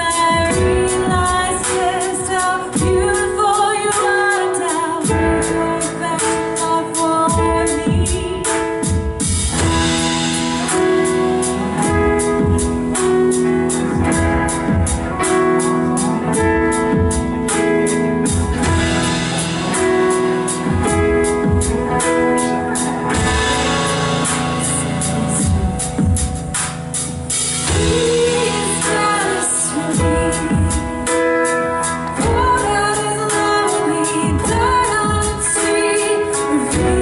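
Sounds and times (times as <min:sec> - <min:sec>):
drum kit beat: 0:00.0 - 0:37.0
guitar: 0:00.0 - 0:37.0
sustained keyboard chords: 0:00.0 - 0:37.0.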